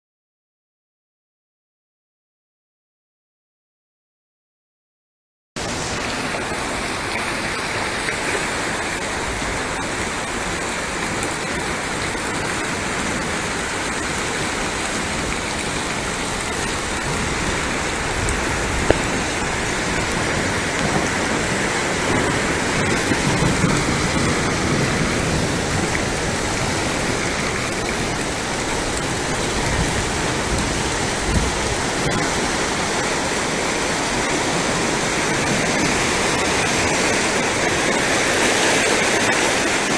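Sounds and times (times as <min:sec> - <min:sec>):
floodwater rushing: 0:05.6 - 0:39.9.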